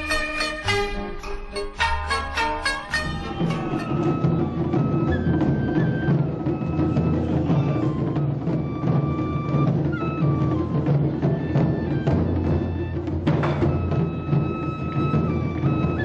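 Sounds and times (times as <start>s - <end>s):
bamboo flute melody: 0.0s - 16.0s
drums beating dense rhythm: 0.0s - 16.0s.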